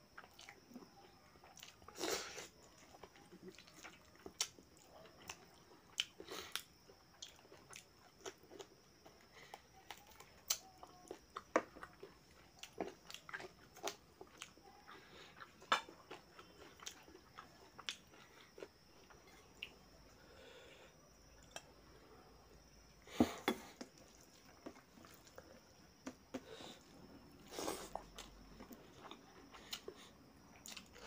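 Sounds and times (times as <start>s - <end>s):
man chewing wetly: 0.2s - 19.9s, 23.4s - 31.0s.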